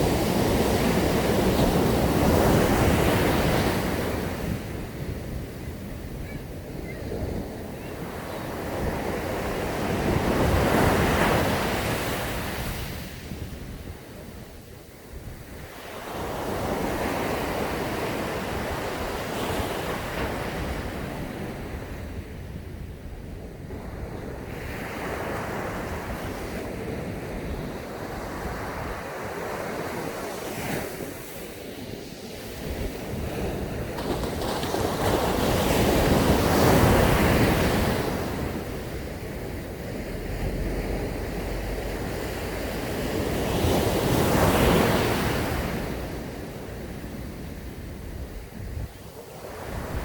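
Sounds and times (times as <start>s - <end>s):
sea waves breaking on beach: 0.0s - 14.4s, 23.7s - 50.0s
wind rumble on microphone: 0.0s - 50.0s.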